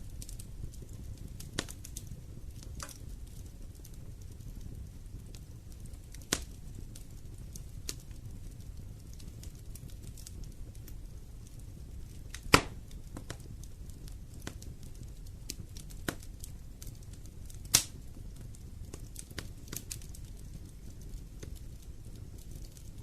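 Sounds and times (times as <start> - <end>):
fire rumbling and crackling: 0.0 - 23.0
sharp pops from burning wood: 0.0 - 23.0.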